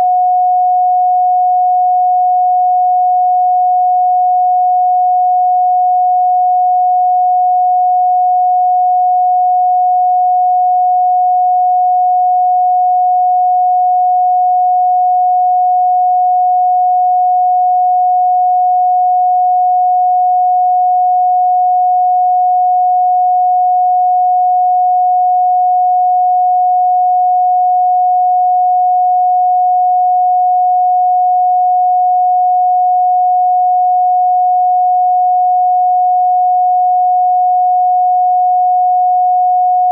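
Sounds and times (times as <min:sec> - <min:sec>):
electronic sine tone: 0:00.0 - 0:39.9.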